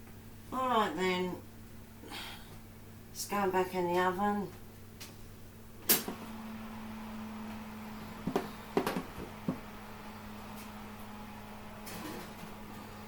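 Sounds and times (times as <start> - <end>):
oven fan humming: 0.0 - 13.0.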